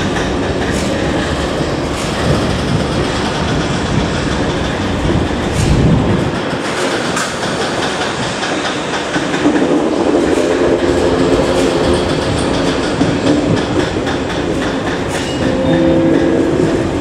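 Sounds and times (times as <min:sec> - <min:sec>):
train rumble: 0:00.0 - 0:17.0
train wheels clicking over rail joints: 0:00.0 - 0:17.0.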